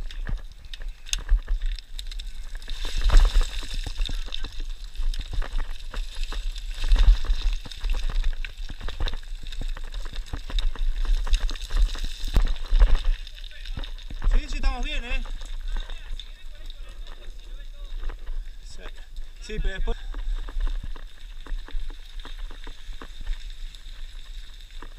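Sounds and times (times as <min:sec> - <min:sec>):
rock sliding underfoot: 0:00.0 - 0:24.9
trekking poles clicking on stones: 0:00.0 - 0:24.9.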